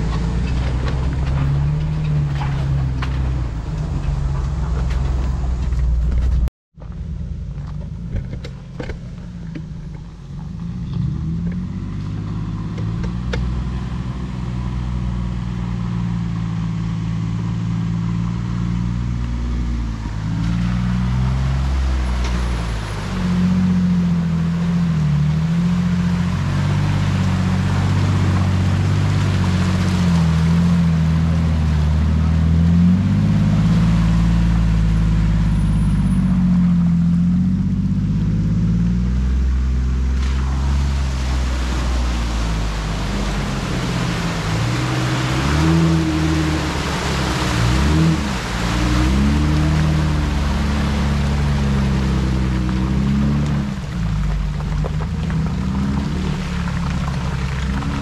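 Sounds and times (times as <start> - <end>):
engine running at low revs: 0.0 - 58.0.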